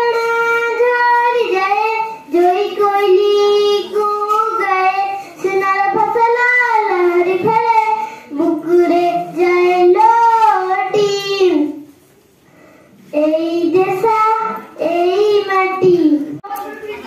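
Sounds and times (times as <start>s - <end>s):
girl singing unaccompanied: 0.0s - 11.9s, 13.1s - 17.0s.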